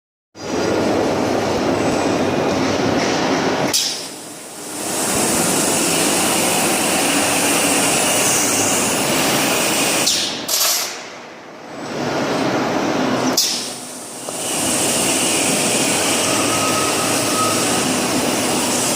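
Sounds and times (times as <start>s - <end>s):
loud machinery noise: 0.4s - 18.9s.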